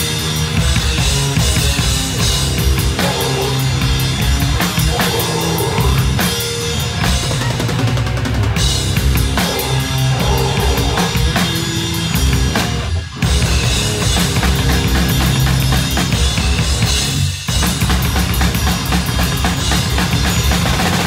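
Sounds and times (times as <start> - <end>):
fast drumming on drum kit: 0.0 - 21.0
metal band playing live: 0.0 - 21.0.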